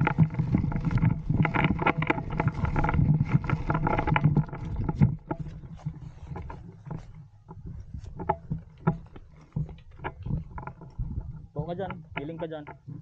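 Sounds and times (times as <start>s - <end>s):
rough rumble: 0.0s - 13.0s.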